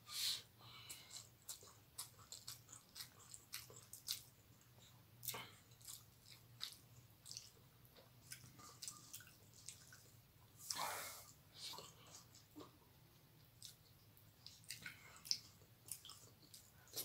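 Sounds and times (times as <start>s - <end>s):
wet chewing and lip-smacking: 0.8s - 17.0s.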